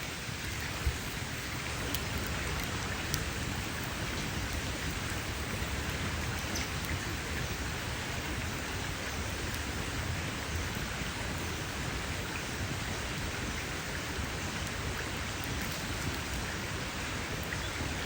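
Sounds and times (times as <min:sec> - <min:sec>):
burning wood crackling: 0:00.0 - 0:18.0
campfire flames hissing: 0:00.0 - 0:18.0.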